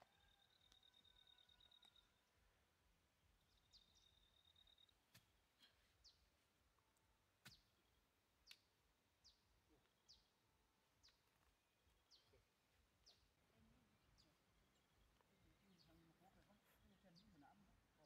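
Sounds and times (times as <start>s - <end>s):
bird chirping: 0.0s - 2.5s, 3.2s - 6.4s, 7.4s - 17.8s.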